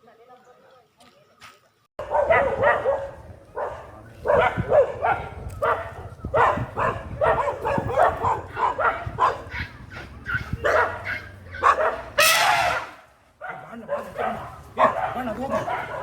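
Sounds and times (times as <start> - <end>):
dog barking: 2.0 - 16.0.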